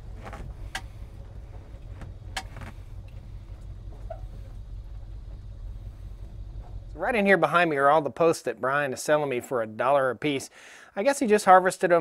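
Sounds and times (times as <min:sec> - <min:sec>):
truck engine low rumble: 0:00.0 - 0:09.6.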